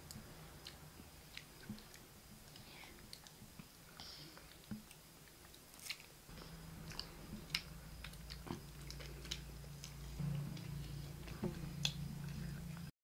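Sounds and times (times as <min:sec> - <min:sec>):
children chewing meat: 0:00.0 - 0:12.9
low steady hum: 0:00.0 - 0:12.9.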